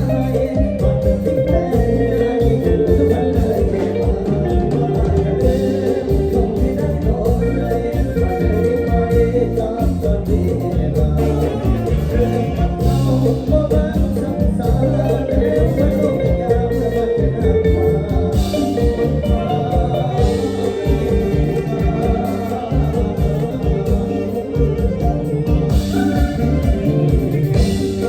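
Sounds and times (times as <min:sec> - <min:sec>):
live band playing: 0:00.0 - 0:28.0.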